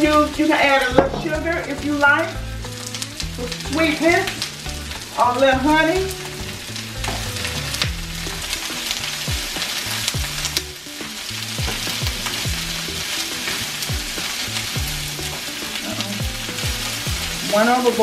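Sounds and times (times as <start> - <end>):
music with rhythmic bass: 0.0 - 17.7
vegetables sizzling in oil: 0.0 - 18.0.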